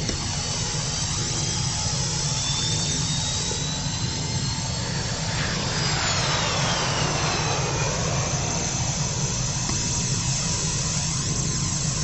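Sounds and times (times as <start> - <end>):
high whines: 0.0 - 12.0
spaceship engine rumble: 0.0 - 12.0.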